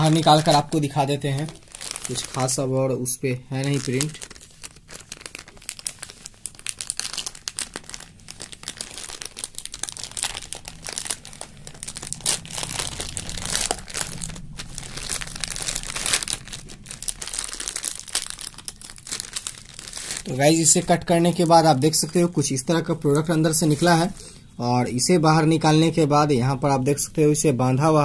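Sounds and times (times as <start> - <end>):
plastic packaging crinkling: 0.0 - 24.4.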